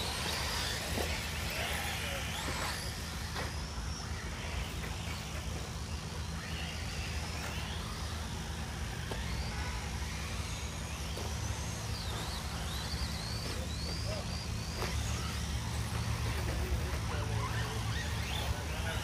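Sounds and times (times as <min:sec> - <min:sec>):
electric motor whine: 0:00.0 - 0:19.0.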